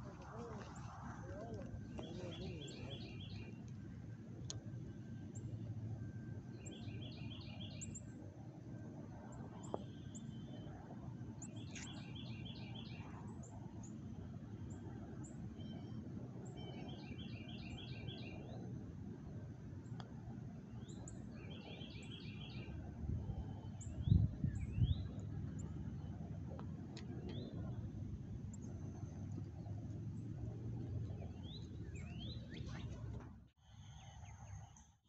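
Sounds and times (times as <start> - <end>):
songbird singing: 0.0 - 3.8, 4.4 - 8.2, 9.3 - 18.7, 20.7 - 35.0
outdoor background noise: 0.0 - 35.0.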